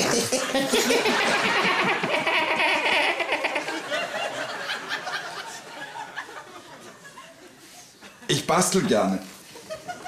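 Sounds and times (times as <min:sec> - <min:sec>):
people laughing: 0:00.0 - 0:08.3, 0:09.6 - 0:10.0.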